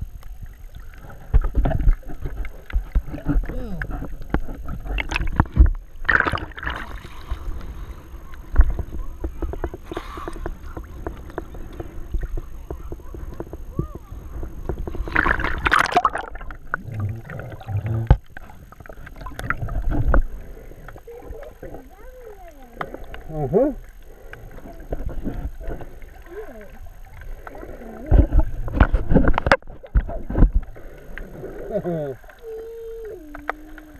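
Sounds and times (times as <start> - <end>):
seawater sloshing and splashing: 0.4 - 31.3.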